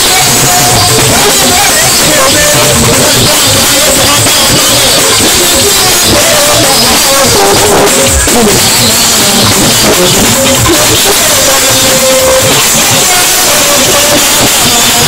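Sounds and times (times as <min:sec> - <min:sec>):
man chanting into microphone: 0:00.0 - 0:15.0
percussion: 0:00.0 - 0:15.0.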